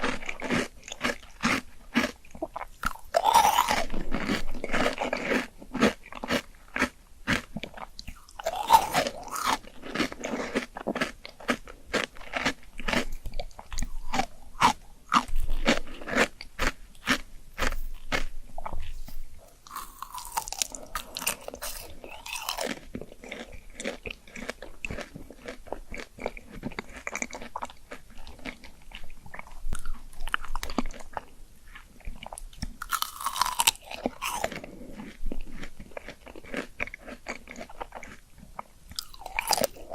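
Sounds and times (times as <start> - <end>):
chewing crunchy fruit: 0.0 - 39.9.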